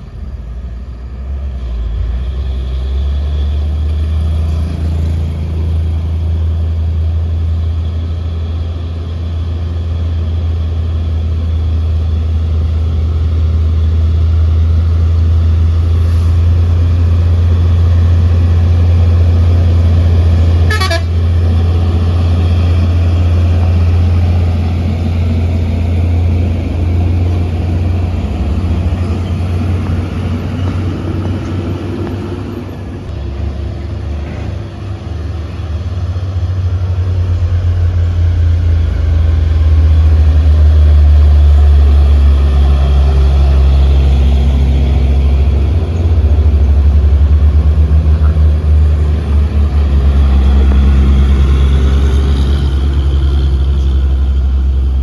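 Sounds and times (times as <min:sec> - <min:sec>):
diesel truck engine pulling uphill: 0:00.0 - 0:55.0.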